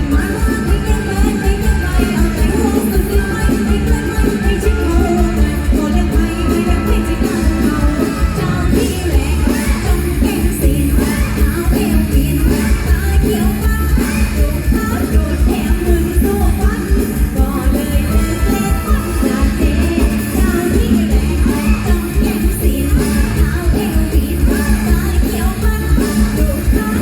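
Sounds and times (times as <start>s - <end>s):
live band music with singing: 0.0s - 27.0s.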